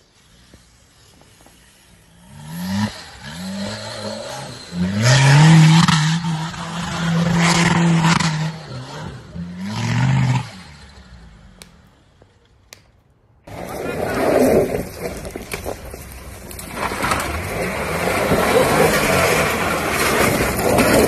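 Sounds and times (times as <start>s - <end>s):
off-road engine revving: 0.0s - 12.2s, 13.5s - 21.0s.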